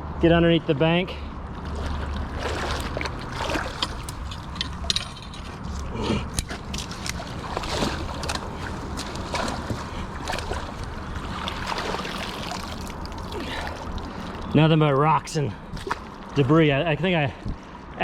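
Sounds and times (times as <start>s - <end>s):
creek water splashing: 1.3s - 17.9s.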